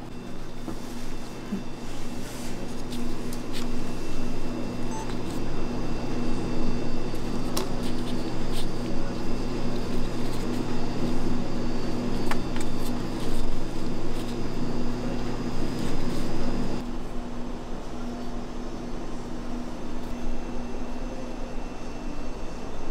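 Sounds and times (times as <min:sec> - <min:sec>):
kitchen machinery hum: 0:00.0 - 0:22.9.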